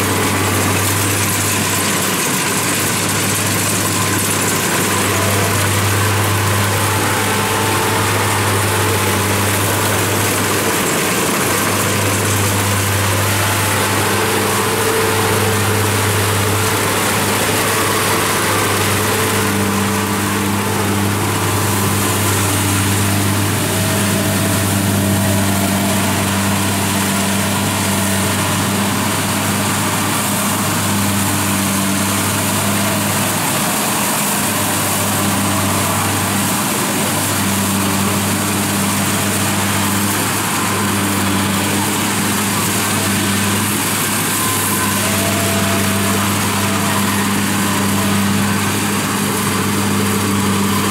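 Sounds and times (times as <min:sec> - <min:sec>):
combine harvester engine humming: 0:00.0 - 0:50.9
cutting and threshing machinery: 0:00.0 - 0:50.9.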